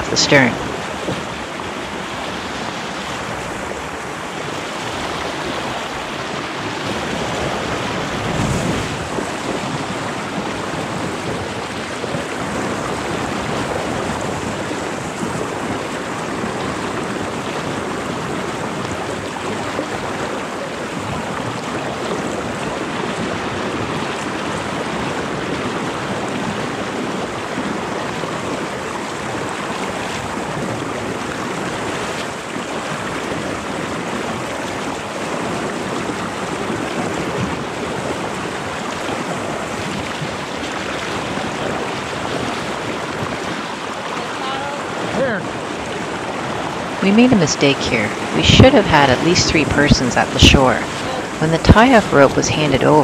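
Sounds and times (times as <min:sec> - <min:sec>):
river floodwater rushing: 0:00.0 - 0:53.0.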